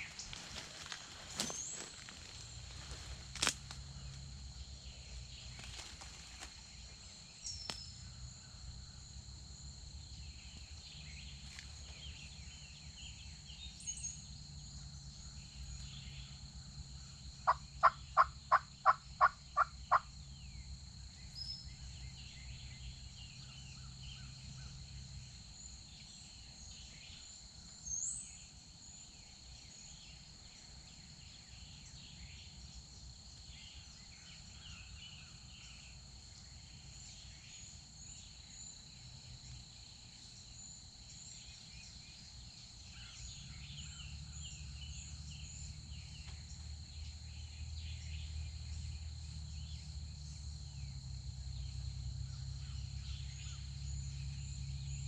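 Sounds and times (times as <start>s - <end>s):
high insect drone: 0.0s - 55.0s
songbird chirps: 0.0s - 55.0s.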